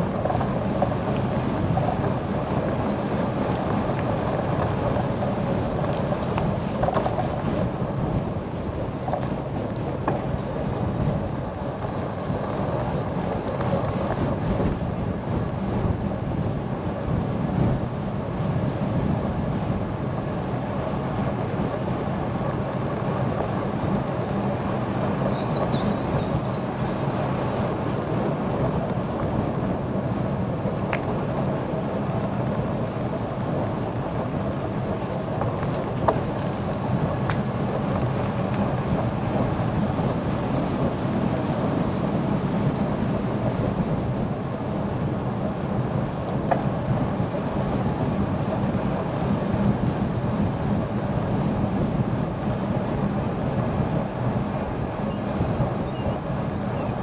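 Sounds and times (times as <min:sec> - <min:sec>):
road noise from moving bike: 0:00.0 - 0:57.0
wind on microphone: 0:00.0 - 0:57.0.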